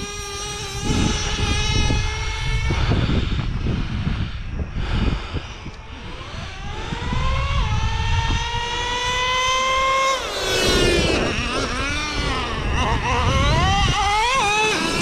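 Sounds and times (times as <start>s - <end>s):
nitro engine revving: 0.0s - 15.0s.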